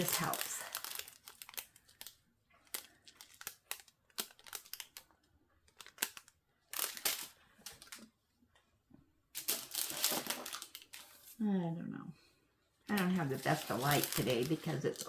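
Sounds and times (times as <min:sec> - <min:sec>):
plastic bags crinkling: 0:00.0 - 0:08.1, 0:09.4 - 0:11.4, 0:12.9 - 0:15.0.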